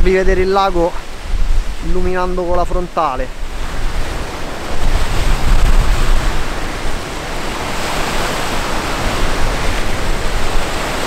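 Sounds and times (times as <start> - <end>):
strong wind blowing: 0.0 - 11.0
wind buffeting microphone: 0.0 - 11.0.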